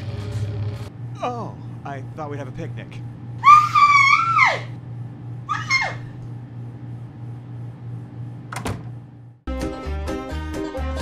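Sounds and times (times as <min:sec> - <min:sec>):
low room hum: 0:00.2 - 0:09.4.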